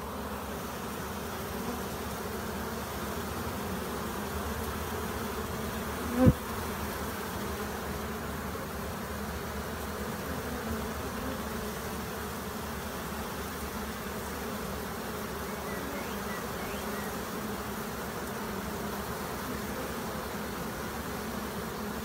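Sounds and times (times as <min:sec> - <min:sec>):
bee swarm humming: 0:00.0 - 0:22.0.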